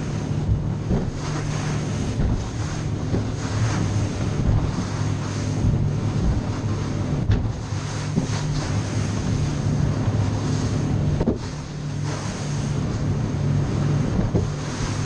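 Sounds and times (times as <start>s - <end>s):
outboard engine drone: 0.0s - 15.0s
wind buffeting microphone: 0.0s - 15.0s.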